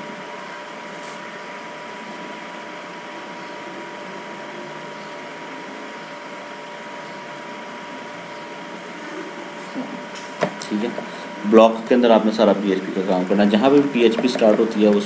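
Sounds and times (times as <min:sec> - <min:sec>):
faint high-pitched two-tone hum: 0:00.0 - 0:15.0.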